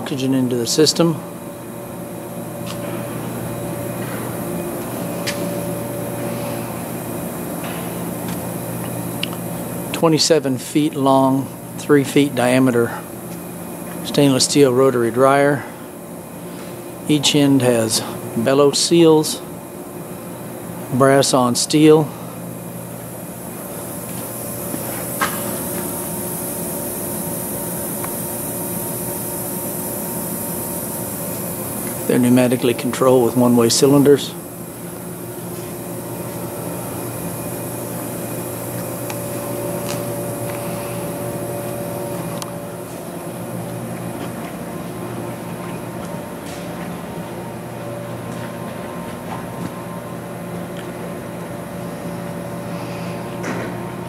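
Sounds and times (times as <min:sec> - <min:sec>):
industrial machinery humming: 0:00.0 - 0:54.0.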